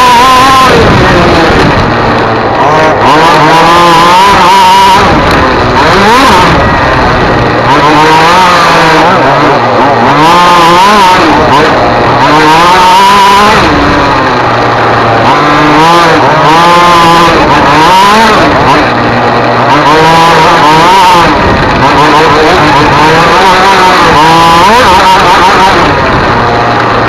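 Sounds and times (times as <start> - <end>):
racing engine at high revs: 0.0 - 27.0.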